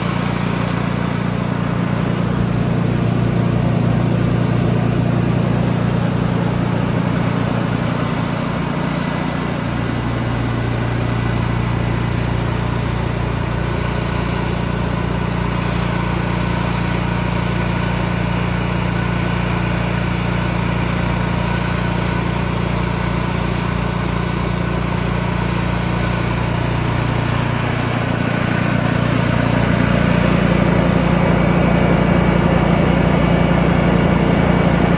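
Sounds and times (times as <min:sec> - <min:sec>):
misting fans humming: 0:00.0 - 0:23.1, 0:24.6 - 0:34.9
portable generator running: 0:00.0 - 0:34.9.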